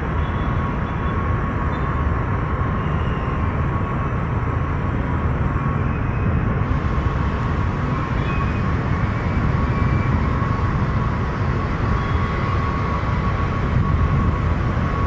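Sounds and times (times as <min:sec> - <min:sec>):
jet engine whine: 0:00.0 - 0:15.0
jet engines rumbling: 0:01.4 - 0:15.0.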